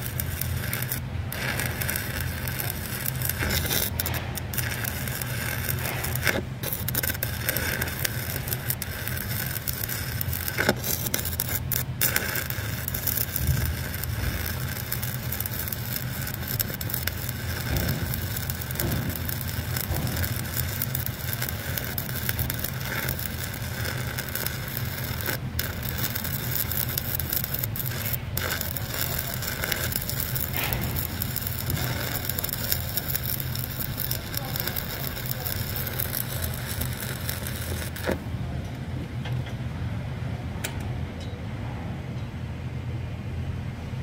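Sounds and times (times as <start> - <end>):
welding arc crackling hiss: 0.0 - 38.3
steady low hum: 0.0 - 44.0.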